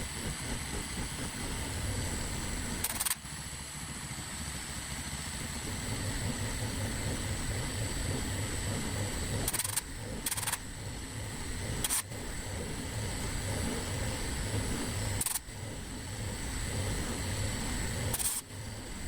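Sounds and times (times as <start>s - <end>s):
milling machine whining: 0.0s - 3.2s, 4.5s - 19.0s.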